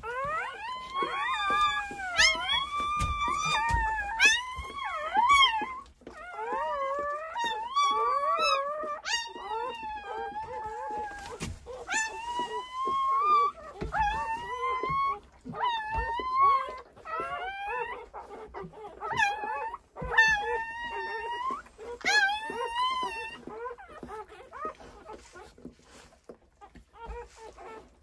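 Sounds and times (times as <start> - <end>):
newborn puppies crying: 0.0 - 28.0.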